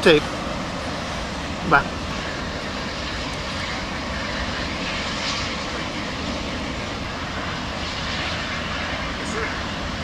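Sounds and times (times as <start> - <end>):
gas venting from tank: 0.0 - 10.0.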